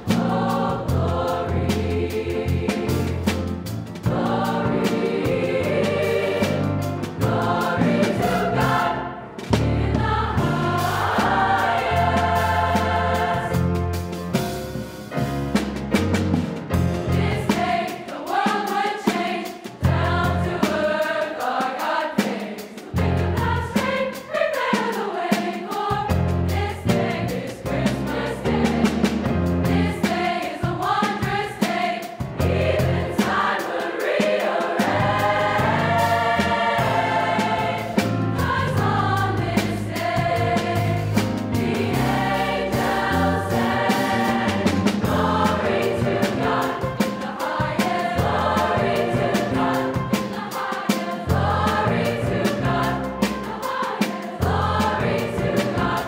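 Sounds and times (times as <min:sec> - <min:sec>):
choir singing in parts: 0:00.0 - 0:14.0, 0:17.0 - 0:56.0
piano accompaniment: 0:00.0 - 0:18.1, 0:26.0 - 0:31.4, 0:32.2 - 0:56.0.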